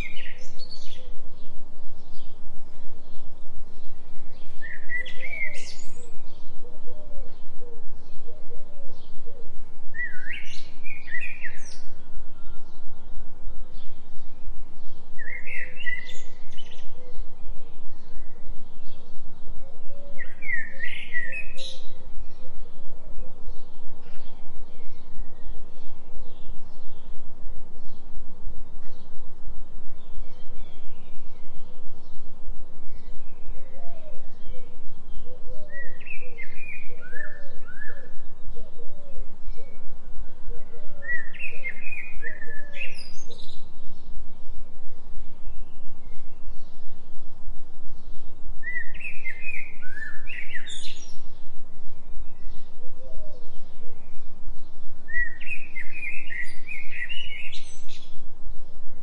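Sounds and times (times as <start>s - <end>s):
bird calling softly: 0.0s - 59.0s
songbird chirping: 0.0s - 59.0s.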